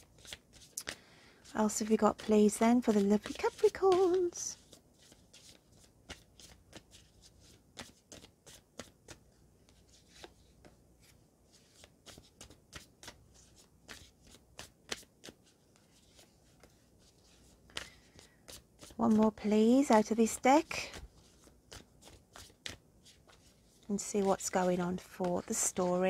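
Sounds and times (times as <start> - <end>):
cards being shuffled: 0.1 - 1.0, 1.7 - 26.0.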